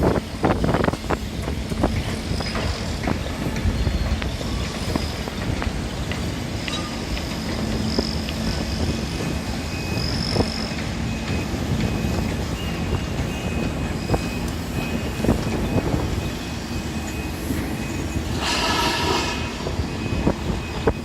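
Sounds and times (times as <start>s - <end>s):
heavy machinery humming: 0.0s - 21.0s.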